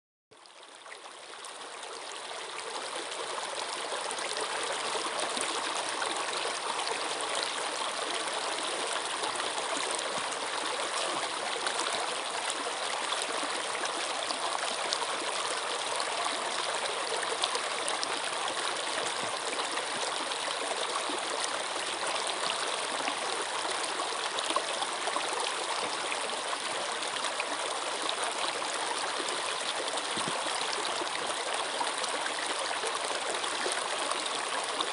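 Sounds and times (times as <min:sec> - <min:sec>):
stream water running over rocks: 0:00.4 - 0:34.9.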